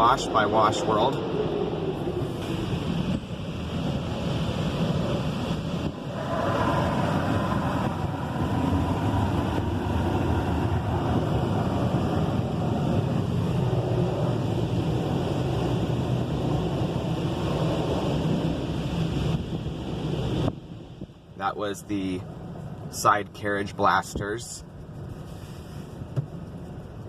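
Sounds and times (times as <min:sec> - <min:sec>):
high-pressure water spraying car: 0:00.0 - 0:20.8, 0:24.8 - 0:27.0.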